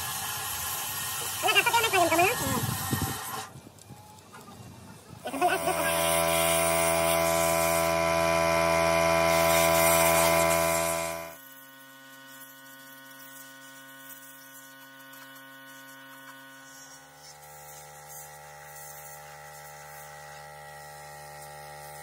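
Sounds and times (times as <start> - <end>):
pneumatic spray gun hissing: 0.0 - 3.6, 5.3 - 22.0.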